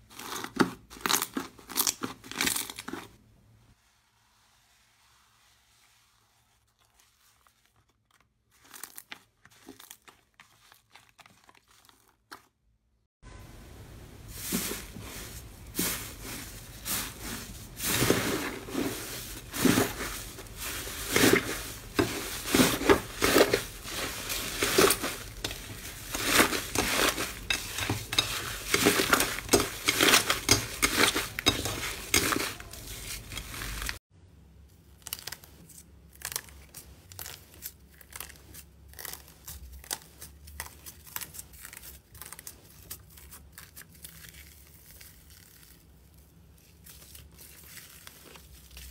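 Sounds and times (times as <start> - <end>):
slime crinkling: 0.0 - 3.2, 5.7 - 12.7, 14.3 - 34.0, 34.7 - 48.9.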